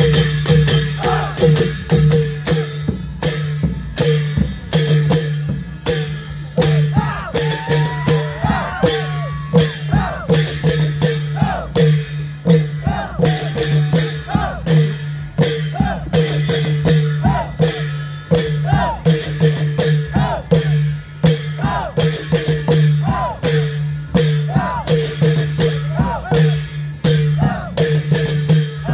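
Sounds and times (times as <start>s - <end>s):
cymbal clashes: 0.0s - 28.9s
long drums beaten fast: 0.0s - 28.9s.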